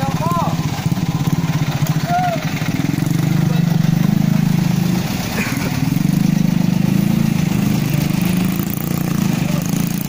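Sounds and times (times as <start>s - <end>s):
diesel truck engine throbbing: 0.0s - 10.0s.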